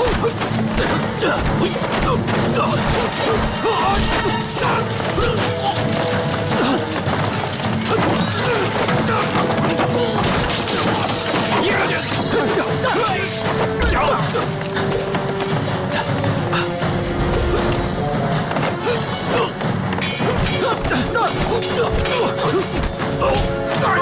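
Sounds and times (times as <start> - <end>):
action music: 0.0 - 24.0.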